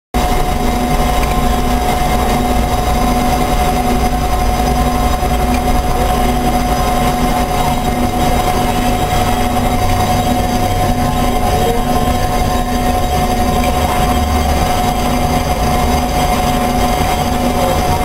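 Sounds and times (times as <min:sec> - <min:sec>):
bandsaw running with high whine: 0:00.2 - 0:18.0.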